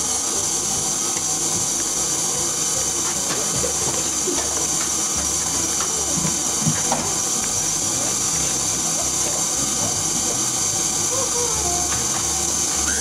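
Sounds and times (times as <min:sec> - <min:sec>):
stand mixer whisking cream: 0:00.0 - 0:13.0.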